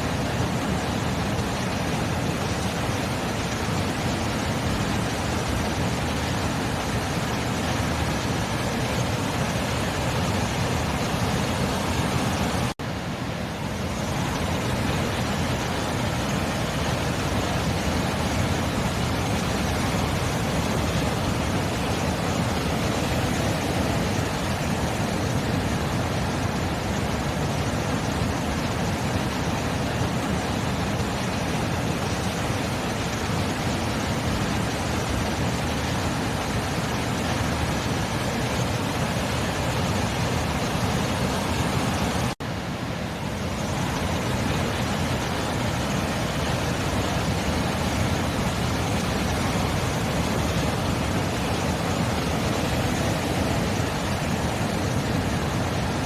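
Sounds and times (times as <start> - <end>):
sea surf roaring: 0.0 - 56.0.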